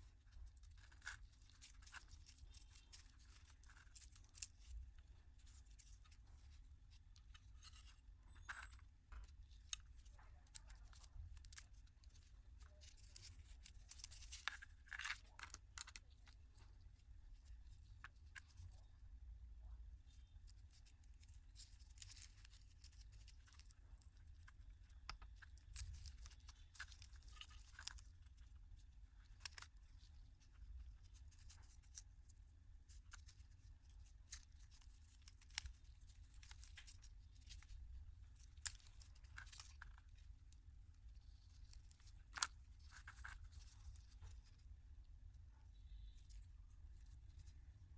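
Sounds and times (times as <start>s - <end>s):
small parts clicking and tapping: 0.0s - 19.2s, 20.0s - 47.9s
low steady hum: 0.0s - 47.9s.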